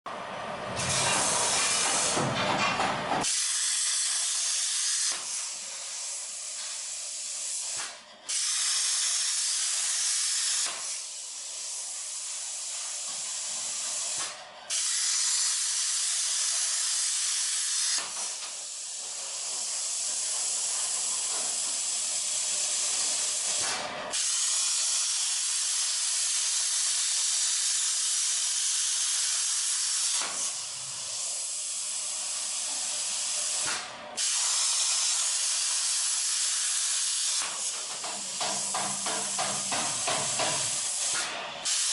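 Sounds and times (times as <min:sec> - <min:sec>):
plasma cutter hissing: 0:00.8 - 0:02.3, 0:03.2 - 0:41.9.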